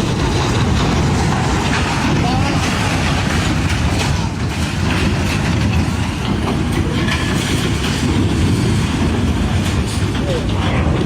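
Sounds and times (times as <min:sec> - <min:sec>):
knocks and clatter: 0:00.0 - 0:11.0
machinery rumbling: 0:00.0 - 0:11.0.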